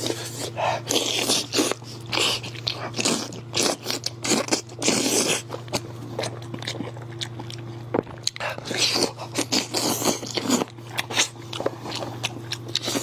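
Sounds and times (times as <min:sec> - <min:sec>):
wet chewing and biting: 0:00.0 - 0:13.0.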